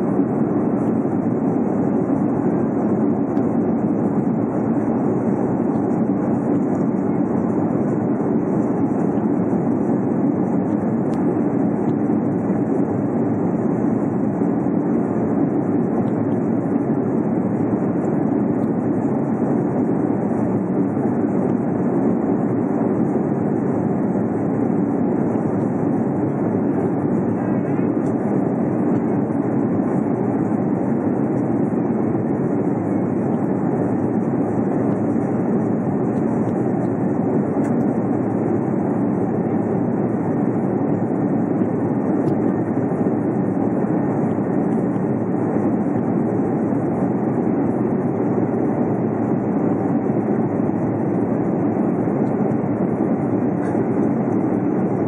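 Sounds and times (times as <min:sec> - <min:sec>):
airliner cabin jet noise: 0:00.0 - 0:55.0.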